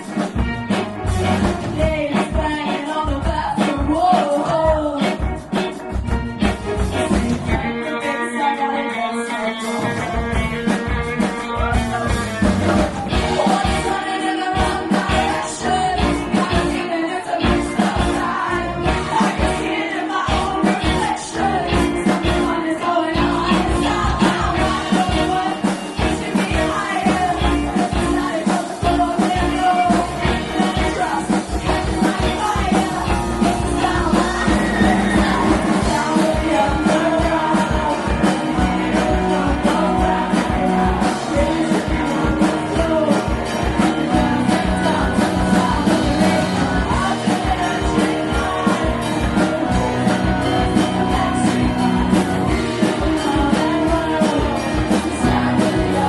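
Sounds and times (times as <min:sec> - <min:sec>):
live band playing pop rock: 0:00.0 - 0:56.0
person singing: 0:01.3 - 0:56.0.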